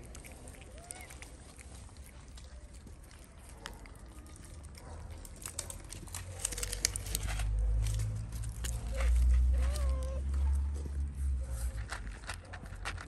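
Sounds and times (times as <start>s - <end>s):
cat chewing wet food: 0.0s - 13.0s.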